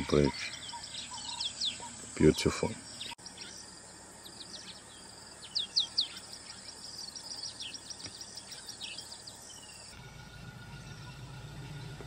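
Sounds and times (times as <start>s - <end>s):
small birds chirping: 0.0s - 12.0s
steady high-pitched buzz: 0.0s - 12.0s.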